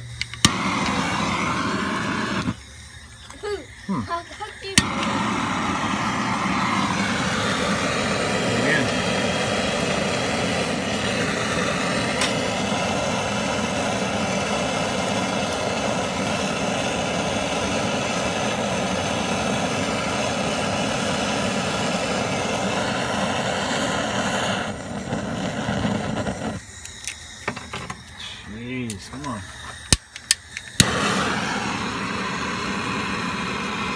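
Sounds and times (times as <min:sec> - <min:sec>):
gas torch flame rushing: 0:00.0 - 0:33.9.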